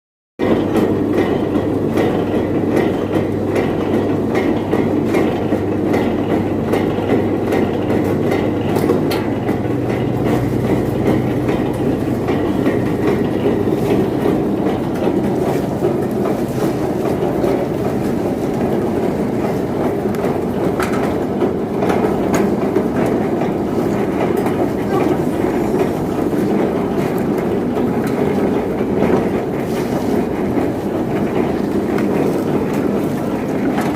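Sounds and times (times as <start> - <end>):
husk-peeling machine clattering: 0.4 - 33.9.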